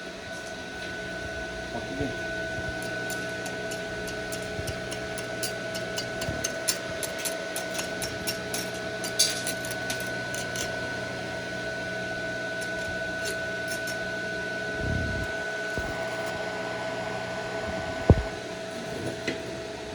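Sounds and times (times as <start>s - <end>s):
cooling fan whine and hum: 0.0s - 19.9s.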